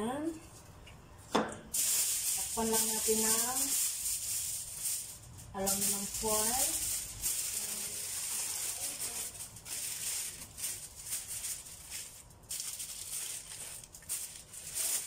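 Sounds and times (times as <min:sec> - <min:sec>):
aluminium foil crinkling: 0:01.7 - 0:15.0.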